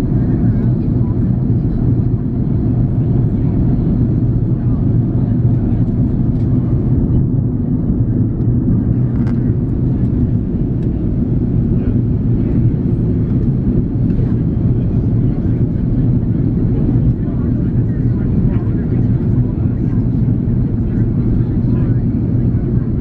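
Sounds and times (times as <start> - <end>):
airplane cabin roar: 0.0 - 23.0
jet engines humming: 0.0 - 23.0.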